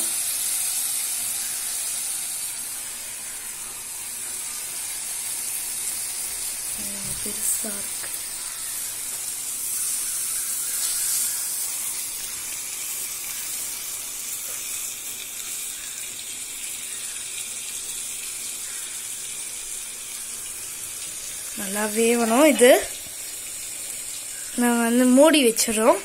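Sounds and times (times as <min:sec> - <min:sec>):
chicken sizzling in butter: 0:00.0 - 0:26.0.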